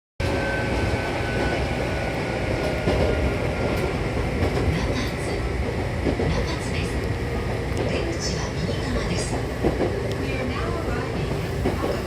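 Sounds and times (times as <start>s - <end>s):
electric train rumbling: 0.2s - 12.0s.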